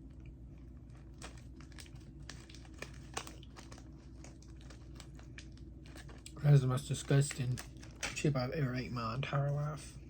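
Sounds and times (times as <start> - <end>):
plastic snack bag crinkling: 0.6 - 8.9.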